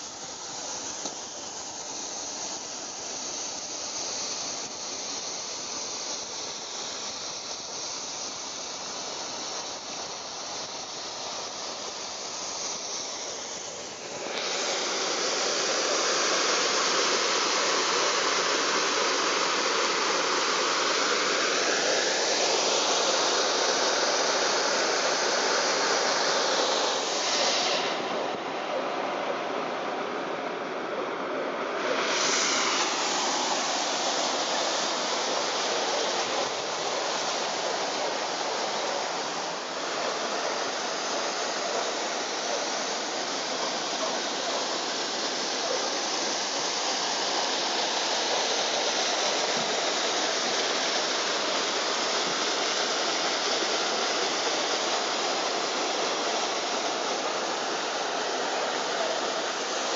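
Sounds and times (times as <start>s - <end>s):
steady rushing hiss: 0.0s - 59.9s.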